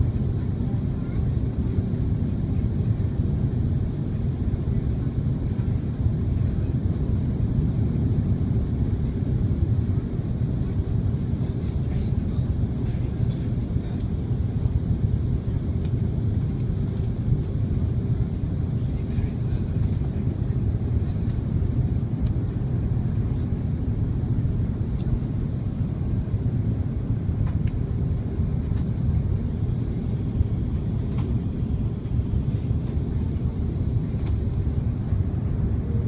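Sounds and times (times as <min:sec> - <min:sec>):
faint steady hum: 0:00.0 - 0:36.0
jet engines rumbling in cabin: 0:00.0 - 0:36.0.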